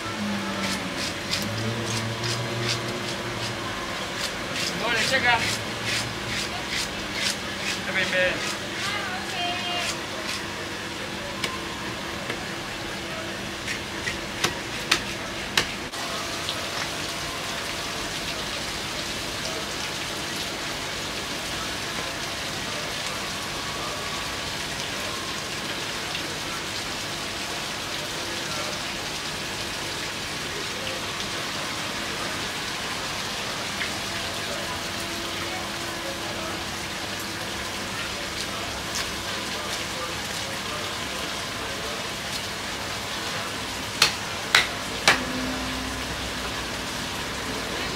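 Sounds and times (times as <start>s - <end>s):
steady rain-like hiss: 0.0s - 13.6s, 15.8s - 47.9s.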